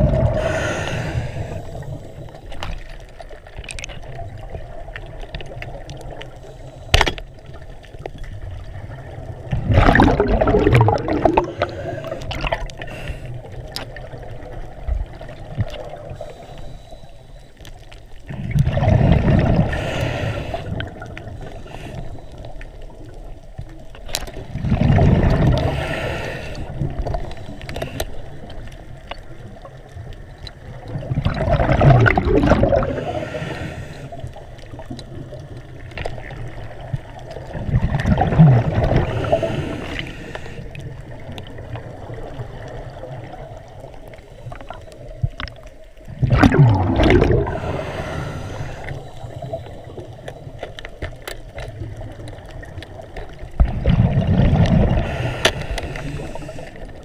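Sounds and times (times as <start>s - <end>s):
muffled underwater rushing: 0.0s - 17.4s, 18.1s - 57.0s.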